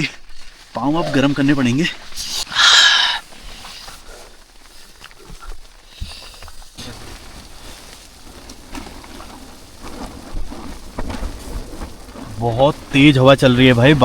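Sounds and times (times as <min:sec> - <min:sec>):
storm wind gusting against tent: 0:00.0 - 0:14.0.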